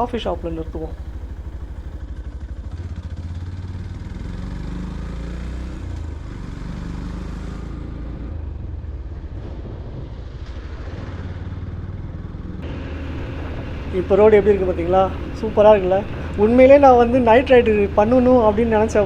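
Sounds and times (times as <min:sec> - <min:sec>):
wind and road noise: 0:00.0 - 0:02.0, 0:03.5 - 0:19.0
motorcycle engine running: 0:00.0 - 0:19.0.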